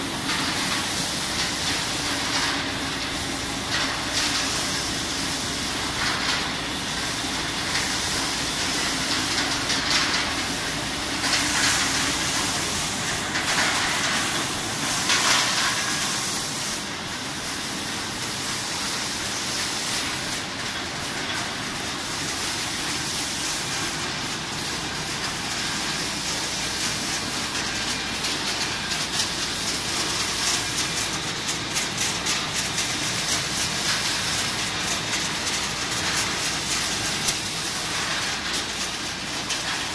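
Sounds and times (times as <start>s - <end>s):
machine mechanical clatter: 0.0s - 39.9s.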